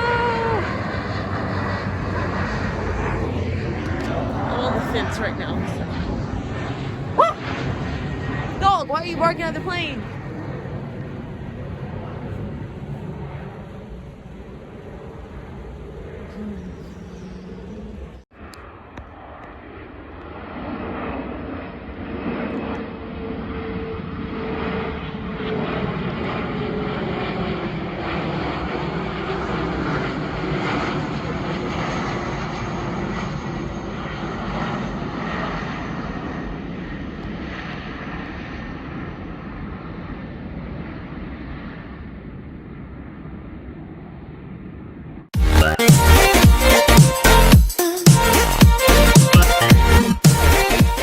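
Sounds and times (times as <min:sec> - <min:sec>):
jet airliner engine roar: 0:00.0 - 0:45.3.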